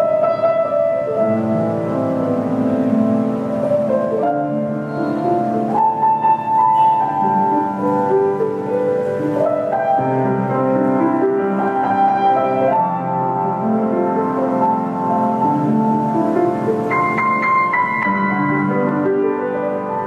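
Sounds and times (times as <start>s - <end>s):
grand piano playing chords: 0.0s - 20.0s.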